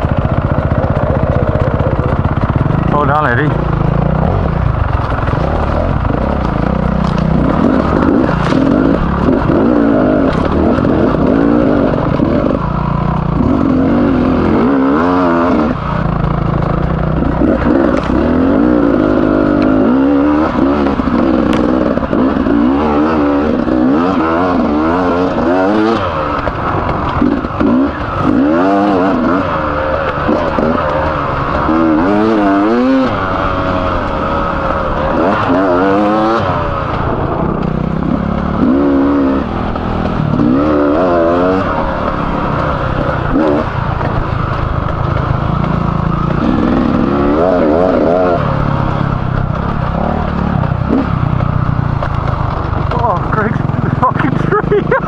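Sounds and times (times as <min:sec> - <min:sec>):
two-stroke engine revving: 0:00.0 - 0:55.0.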